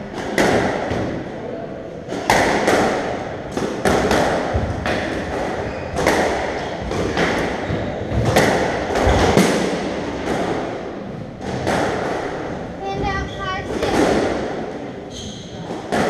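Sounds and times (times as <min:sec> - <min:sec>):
squash ball knocks in echoing court: 0:00.0 - 0:01.4, 0:02.0 - 0:16.0.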